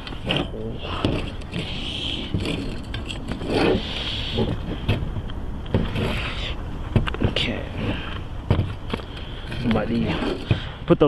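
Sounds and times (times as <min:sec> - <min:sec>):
background hiss: 0:00.0 - 0:11.0
tire scraping against rim: 0:00.0 - 0:11.0.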